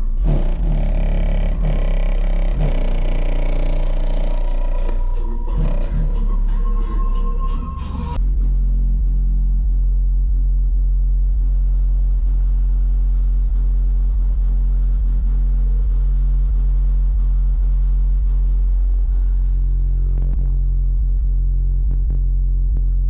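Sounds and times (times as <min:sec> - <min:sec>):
subwoofers playing deep bass tone: 0:00.0 - 0:23.0.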